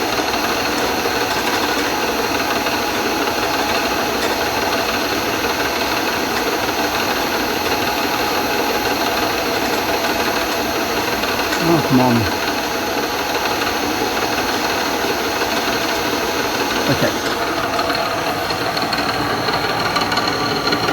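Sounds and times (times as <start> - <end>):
milling machine humming: 0.0 - 20.9.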